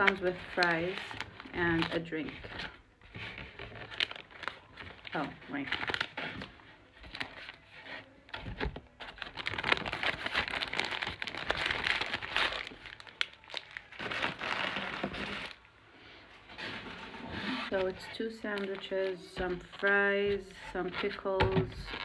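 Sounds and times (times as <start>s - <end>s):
food wrapping and bag crinkling: 0.0s - 15.7s, 17.6s - 22.0s.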